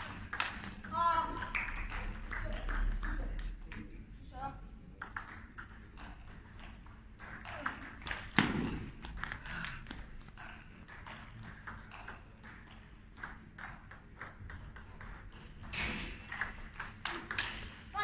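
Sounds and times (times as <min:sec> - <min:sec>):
table tennis balls bouncing: 0:00.0 - 0:04.0, 0:04.8 - 0:18.0.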